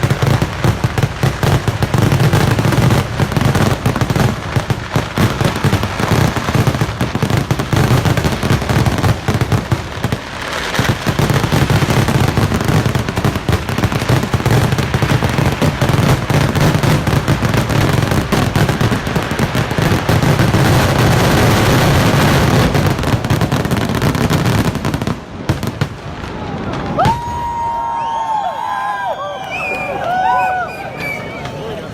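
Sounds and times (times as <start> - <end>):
firecracker explosions: 0.0 - 31.9.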